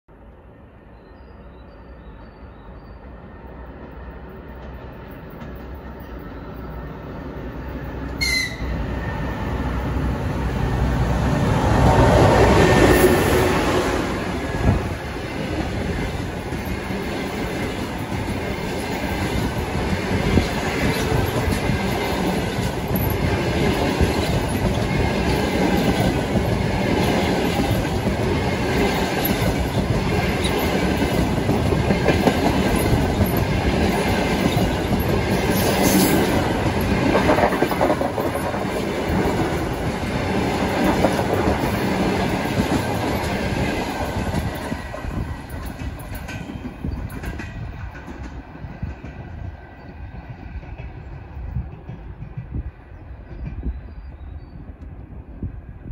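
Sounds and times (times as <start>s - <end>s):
electric locomotive passing: 0.1s - 55.9s
train wheels clickety-clack: 3.8s - 6.2s, 11.6s - 54.2s.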